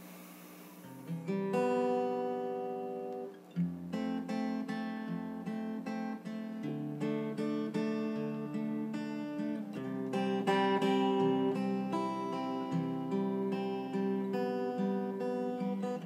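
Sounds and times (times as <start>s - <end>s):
acoustic guitar playing: 0.8s - 16.0s.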